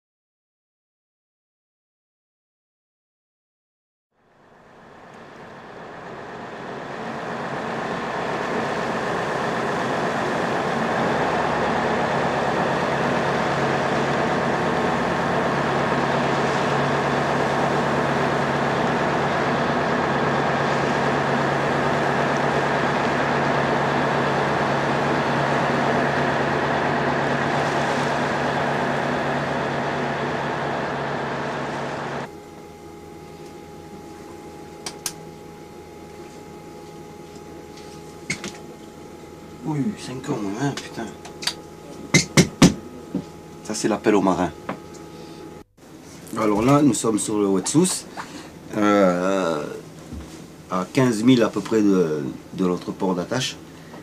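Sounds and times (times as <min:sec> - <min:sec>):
boat engine humming: 0:04.5 - 0:54.0.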